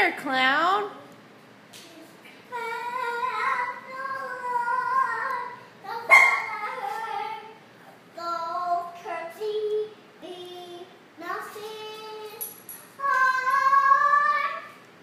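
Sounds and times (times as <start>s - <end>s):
girl singing: 1.8s - 14.9s.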